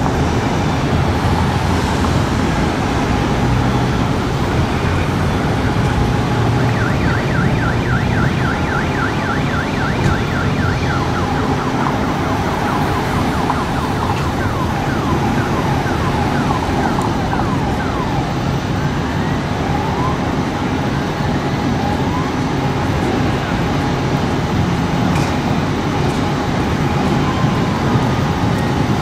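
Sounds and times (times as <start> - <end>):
emergency siren yelping and wailing: 0.0 - 25.1, 25.7 - 29.0
engines idling and street traffic: 0.0 - 29.0.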